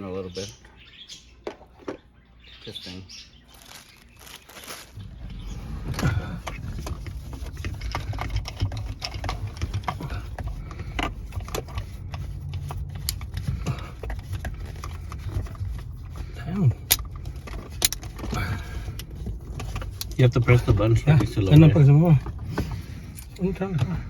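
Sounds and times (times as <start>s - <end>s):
steady low rumble: 3.5s - 24.0s.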